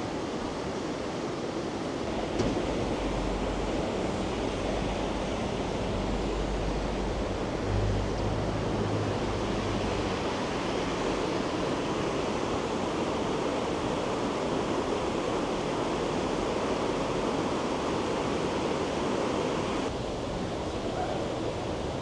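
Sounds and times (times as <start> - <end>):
steady rushing noise: 1.2 - 22.0.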